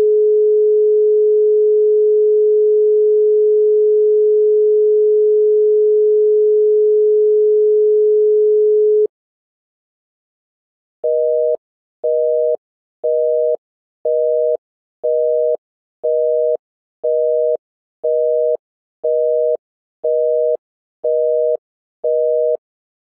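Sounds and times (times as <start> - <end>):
telephone busy tone: 0.0 - 9.1, 11.0 - 22.6.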